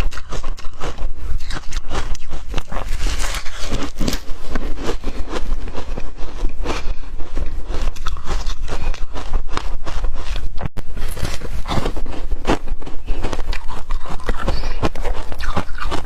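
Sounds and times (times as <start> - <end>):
chewing ice crunches: 0.0 - 16.0.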